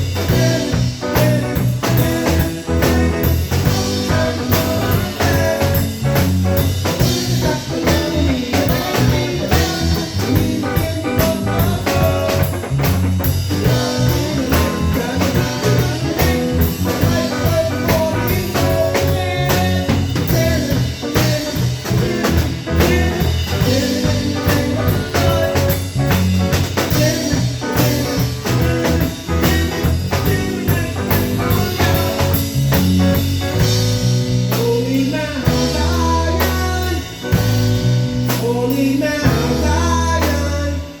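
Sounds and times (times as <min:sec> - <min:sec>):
live blues-rock band: 0:00.0 - 0:41.0.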